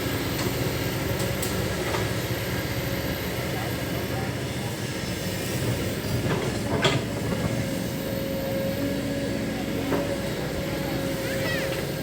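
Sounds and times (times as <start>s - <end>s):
excavator engine rumbling: 0.0s - 12.0s.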